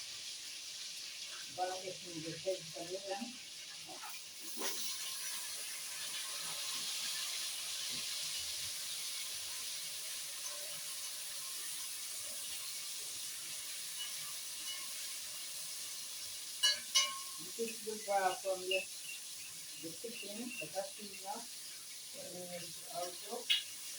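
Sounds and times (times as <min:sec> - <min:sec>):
chicken and vegetables sizzling: 0:00.0 - 0:23.9.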